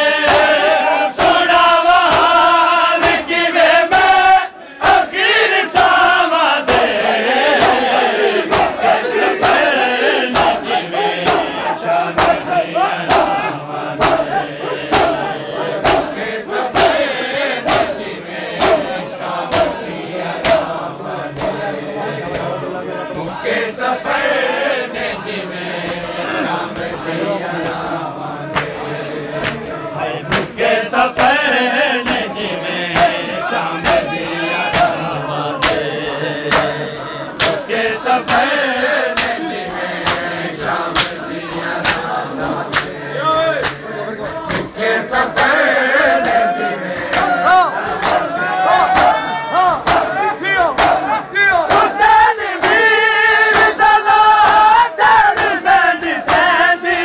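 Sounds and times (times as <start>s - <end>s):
men chanting a lament: 0.0s - 57.0s
hands slapping chests: 0.2s - 0.6s, 1.2s - 3.3s, 6.6s - 23.4s, 25.8s - 43.0s, 43.6s - 52.9s, 53.5s - 56.6s.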